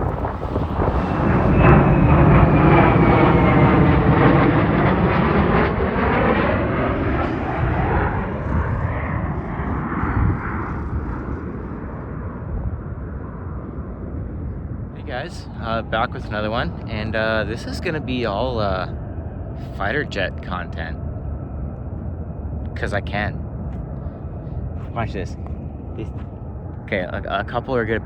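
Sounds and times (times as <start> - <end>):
jet engine passing overhead: 0.0 - 28.0.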